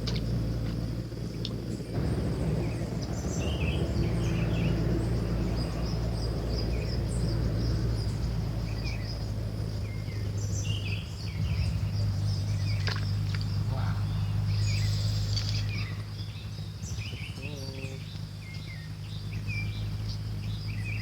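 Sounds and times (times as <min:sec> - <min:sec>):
high insect drone: 0:00.0 - 0:21.0
loud low rumble: 0:00.0 - 0:21.0
bird chirps: 0:01.2 - 0:21.0.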